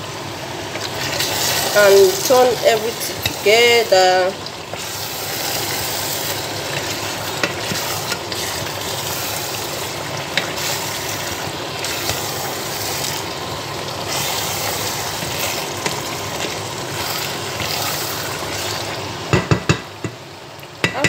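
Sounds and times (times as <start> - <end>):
meat sizzling in sauce: 0.0 - 20.9
spatula stirring in pot: 0.8 - 19.4.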